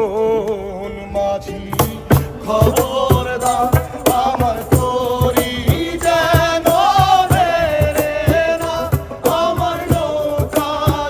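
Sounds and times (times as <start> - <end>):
person singing a wavering melody: 1.4 - 11.0
steady drum beat: 1.7 - 11.0.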